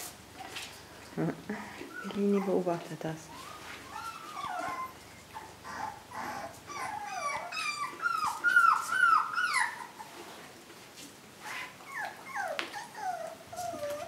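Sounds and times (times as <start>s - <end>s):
puppies whimpering: 1.6s - 10.3s, 11.4s - 14.0s.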